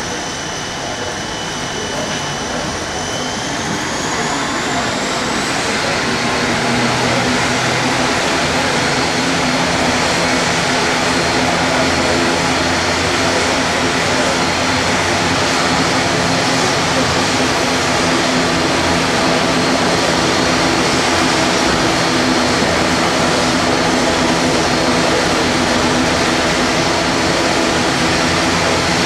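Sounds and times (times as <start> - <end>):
low propeller drone: 0.0 - 29.0
turboprop engine whine: 0.0 - 29.0.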